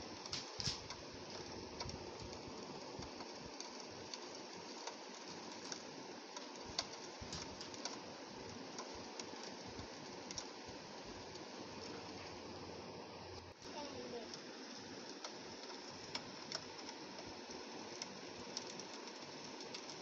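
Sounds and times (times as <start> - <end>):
rain on a window: 0.0 - 20.0.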